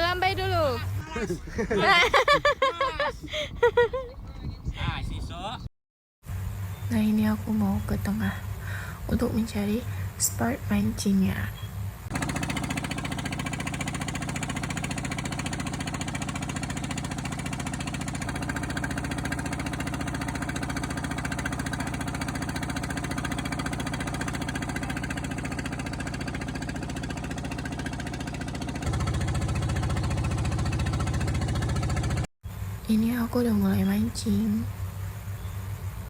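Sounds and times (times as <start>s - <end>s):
small boat engine running: 0.0s - 4.1s, 6.3s - 36.0s.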